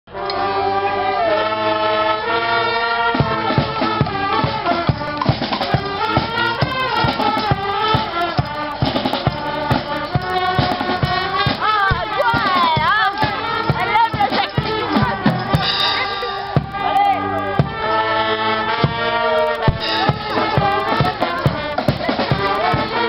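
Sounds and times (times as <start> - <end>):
brass instruments holding chords: 0.1 - 23.0
steady drum beat: 2.8 - 23.0.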